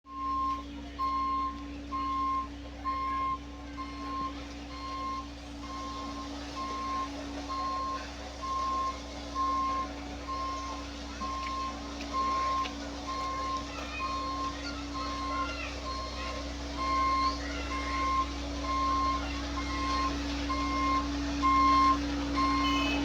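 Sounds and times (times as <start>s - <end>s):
diesel engine running: 0.0s - 23.0s
reversing alarm beeping: 0.1s - 23.0s.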